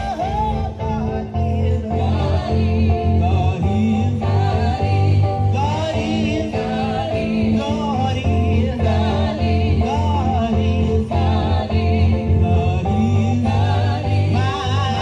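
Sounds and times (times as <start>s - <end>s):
keyboard playing sustained chords: 0.0s - 15.0s
women singing gospel song: 1.1s - 15.0s.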